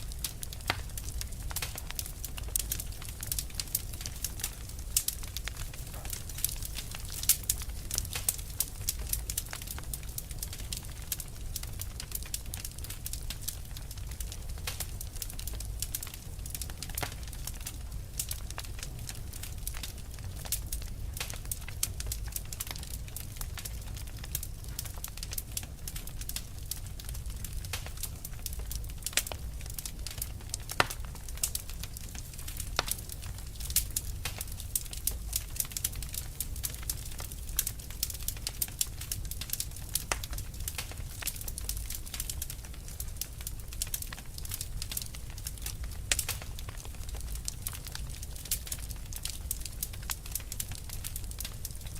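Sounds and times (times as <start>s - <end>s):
fire crackling: 0.0s - 51.9s.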